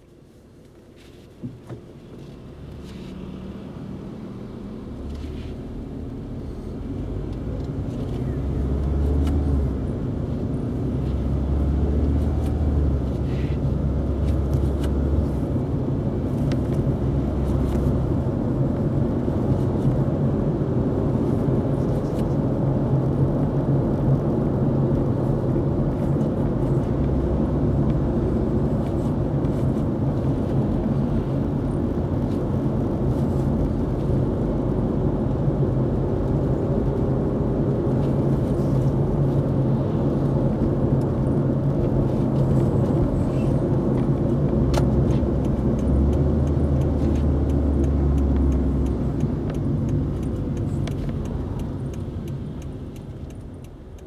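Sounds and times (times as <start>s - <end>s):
car engine hum: 0.0s - 54.0s
road rumble: 0.0s - 54.0s.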